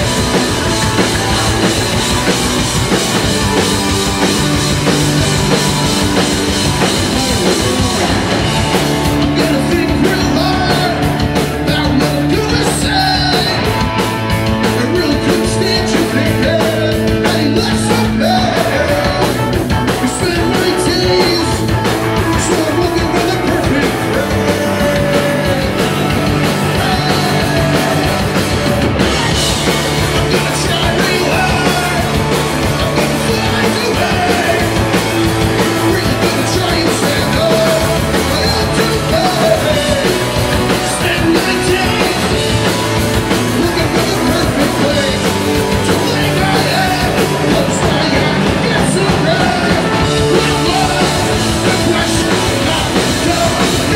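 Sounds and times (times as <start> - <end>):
bass guitar: 0.0 - 53.9
distorted electric guitars: 0.0 - 53.9
drum kit: 0.0 - 53.9
man singing: 0.0 - 53.9.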